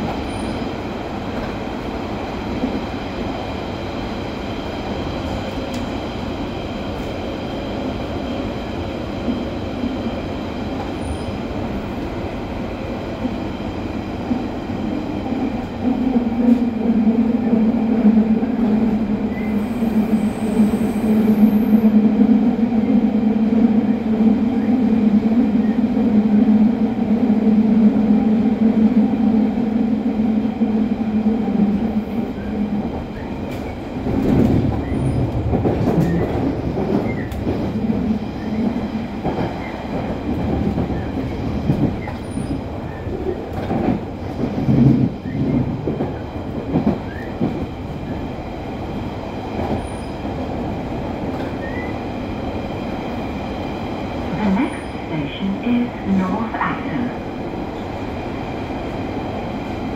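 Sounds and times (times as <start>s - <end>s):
deep train rumble: 0.0s - 59.9s
train running noise: 0.0s - 59.9s.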